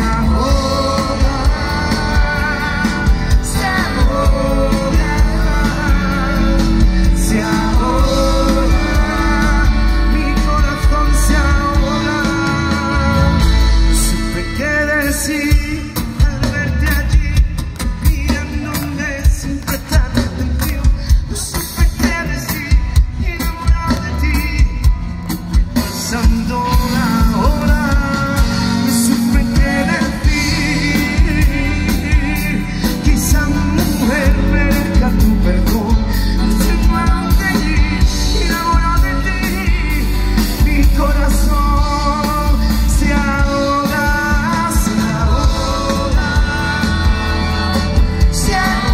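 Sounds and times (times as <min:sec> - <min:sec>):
pop-rock band playing: 0:00.0 - 0:48.9.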